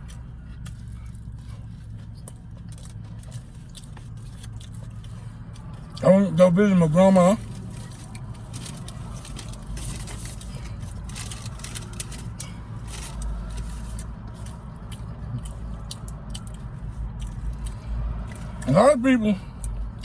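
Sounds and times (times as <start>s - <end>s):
chewing crunchy food: 0.0s - 6.0s, 7.4s - 18.7s
low steady rumble: 0.0s - 20.0s.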